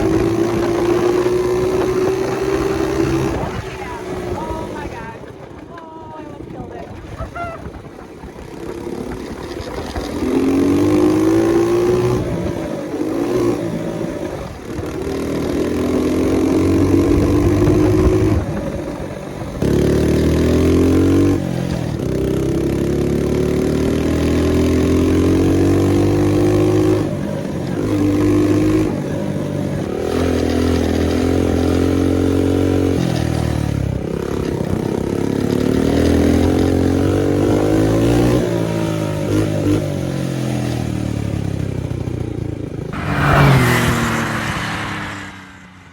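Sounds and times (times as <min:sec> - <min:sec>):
small motorbike engine revving: 0:08.7 - 0:45.9.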